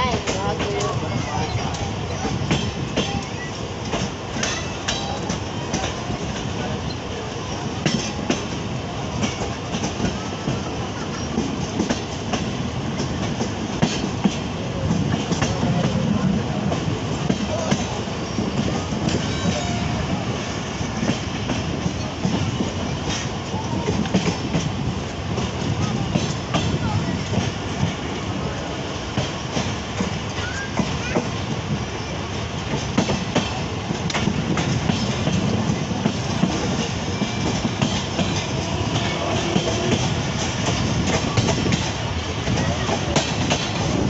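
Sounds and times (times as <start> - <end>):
train running gear rumble: 0.0 - 44.0
wheels clacking over rail joints: 0.0 - 44.0.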